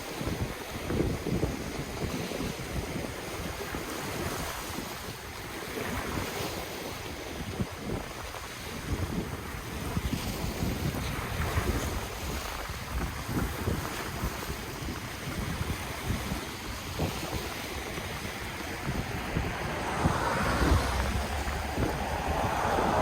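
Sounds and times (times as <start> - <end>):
ocean waves washing on shore: 0.0 - 23.0
wind gusting on microphone: 0.0 - 23.0.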